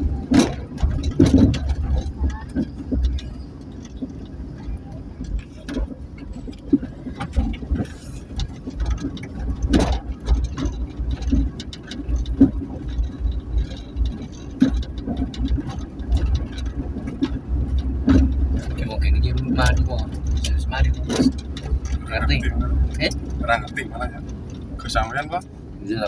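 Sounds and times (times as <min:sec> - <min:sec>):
light knocks and rattles: 0:00.0 - 0:25.8
vehicle engine and road rumble: 0:00.0 - 0:26.0.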